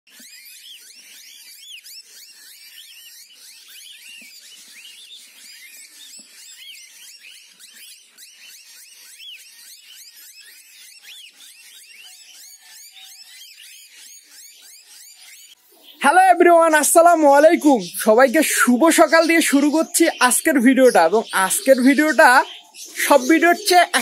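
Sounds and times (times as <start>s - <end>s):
cockatiels chirping: 0.2s - 16.0s, 17.0s - 24.0s.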